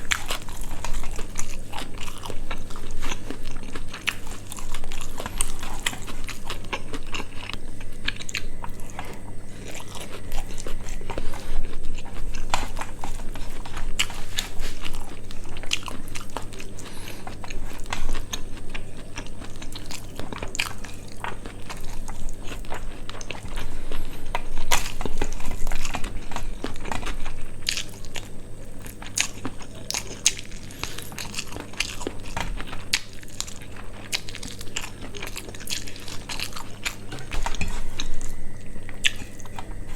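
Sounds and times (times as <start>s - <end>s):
low electrical hum: 0.0s - 39.9s
person chewing and biting: 0.0s - 39.9s.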